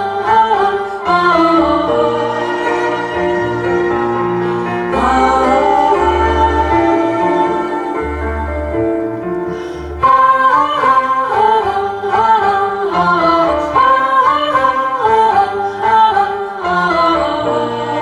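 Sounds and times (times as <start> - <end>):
slow song over stereo: 0.0 - 18.0.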